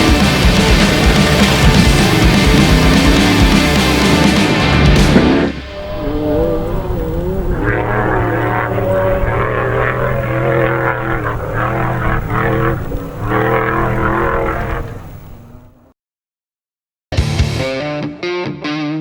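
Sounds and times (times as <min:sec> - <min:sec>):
race truck engine revving: 0:00.0 - 0:15.6.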